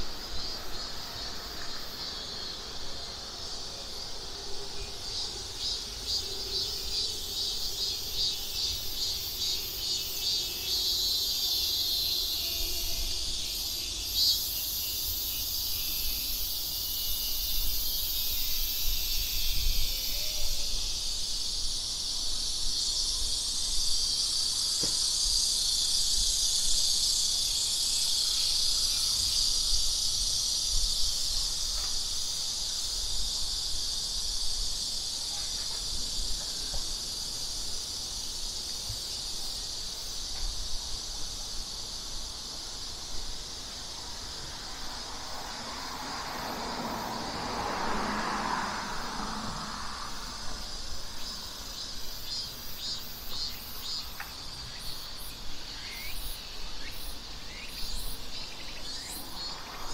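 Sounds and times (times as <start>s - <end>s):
high-pitched insect sound: 0.0s - 59.9s
insects buzzing: 0.0s - 59.9s.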